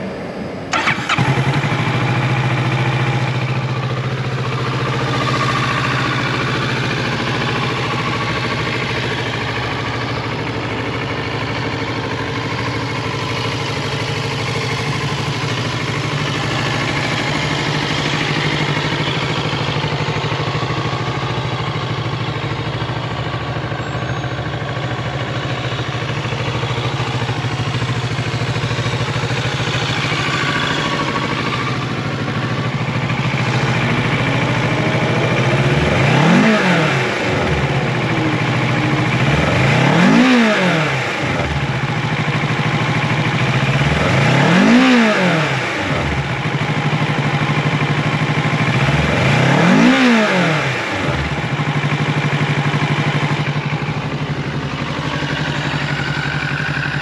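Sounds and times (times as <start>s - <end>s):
motorcycle engine idling: 0.0s - 57.0s
motorcycle engine revving: 0.7s - 57.0s.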